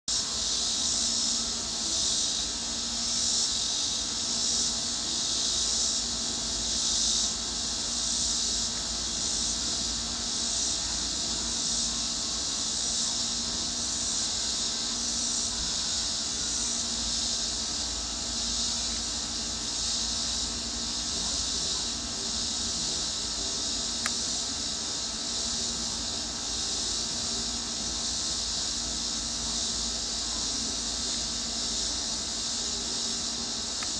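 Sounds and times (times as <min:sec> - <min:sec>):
insects buzzing trill: 0:00.1 - 0:33.9
steady low hum: 0:00.1 - 0:33.9.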